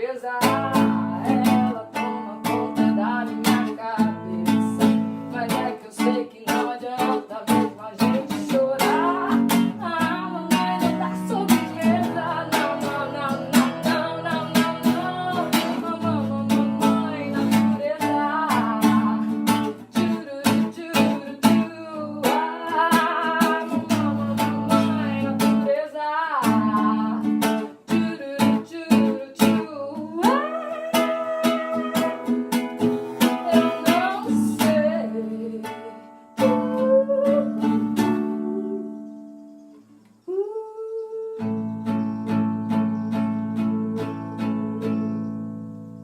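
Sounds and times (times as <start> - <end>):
person singing: 0.0 - 39.2, 40.2 - 45.4
strummed acoustic guitar: 0.0 - 39.8, 41.4 - 46.0.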